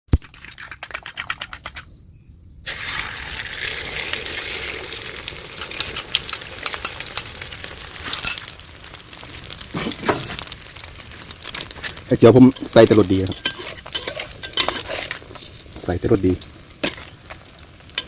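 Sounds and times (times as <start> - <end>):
eggs sizzling in hot oil: 2.6 - 18.0.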